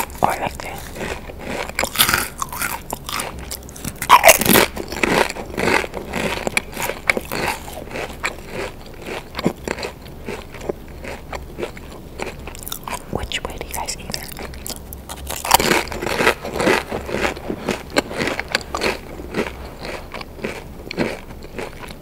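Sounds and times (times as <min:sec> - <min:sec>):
potato crisps crunching: 0:00.0 - 0:22.0.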